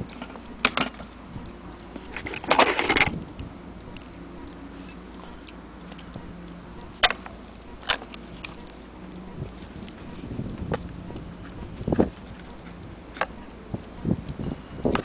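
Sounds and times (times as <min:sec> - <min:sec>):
faint steady hum: 0:00.0 - 0:15.0
sharp clicks of metal parts: 0:00.0 - 0:15.0.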